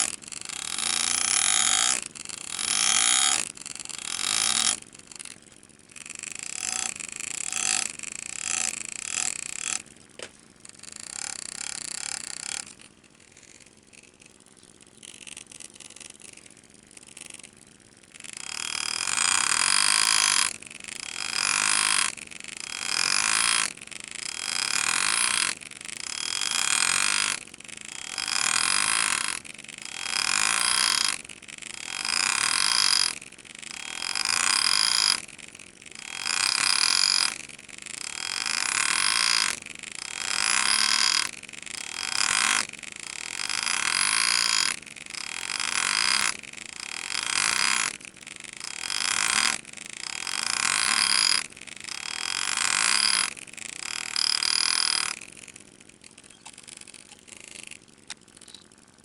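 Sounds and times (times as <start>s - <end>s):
engraving tool buzzing: 0.0s - 59.0s.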